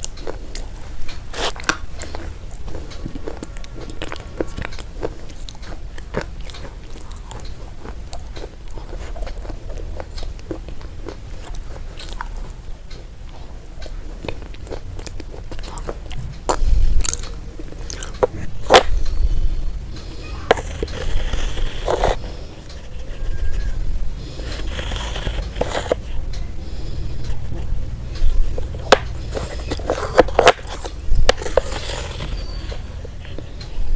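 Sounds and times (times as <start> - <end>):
chewing crunchy food: 0.0 - 33.8.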